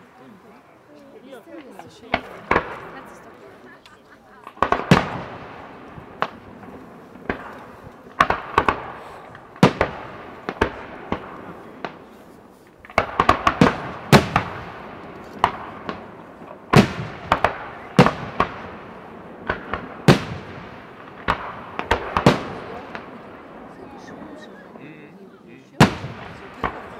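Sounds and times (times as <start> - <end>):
fireworks bursting: 1.6 - 24.8, 25.7 - 26.9.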